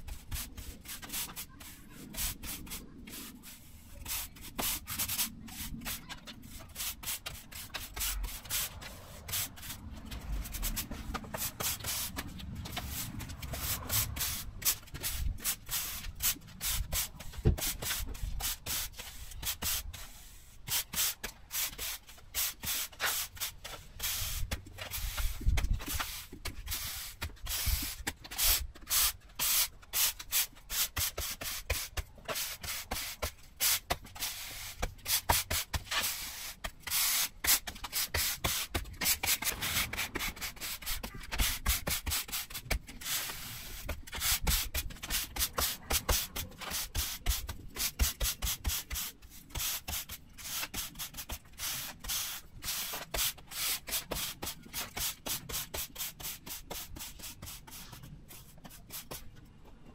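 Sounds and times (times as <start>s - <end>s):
stiff broom sweeping sand: 0.1s - 58.0s.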